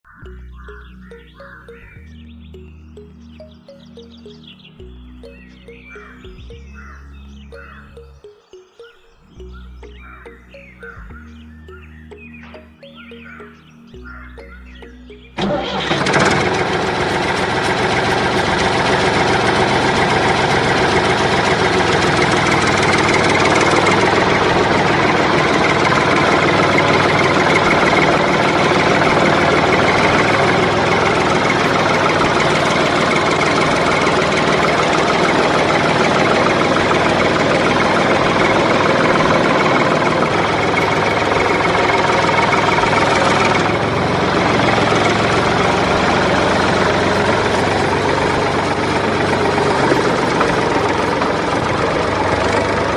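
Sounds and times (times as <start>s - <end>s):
tractor engine idling: 0.0s - 8.3s, 9.4s - 52.9s.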